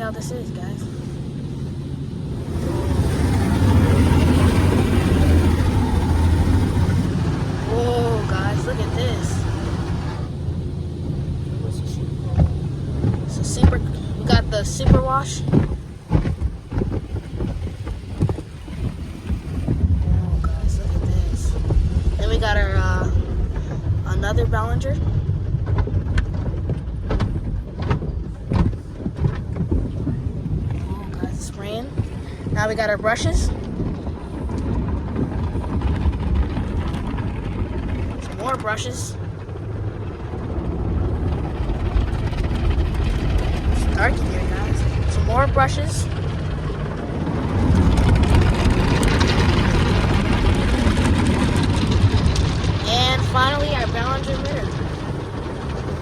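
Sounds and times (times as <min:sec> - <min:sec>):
car wash equipment rushing: 0:00.0 - 0:56.0.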